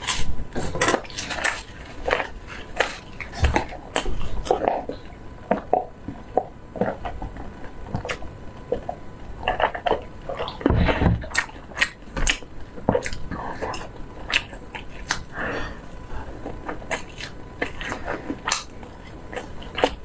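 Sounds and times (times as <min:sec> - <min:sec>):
chewing and swallowing: 0:00.0 - 0:20.0.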